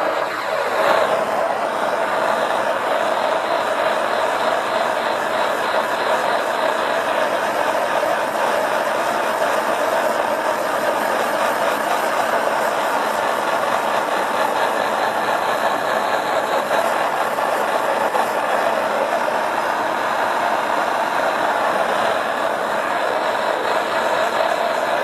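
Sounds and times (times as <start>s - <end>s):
propane torch flame rushing: 0.0s - 25.0s.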